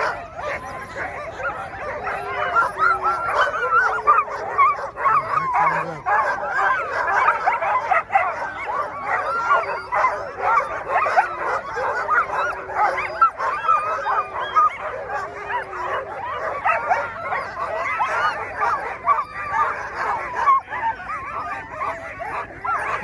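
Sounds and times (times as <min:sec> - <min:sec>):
sled dogs yipping and barking: 0:00.0 - 0:23.0.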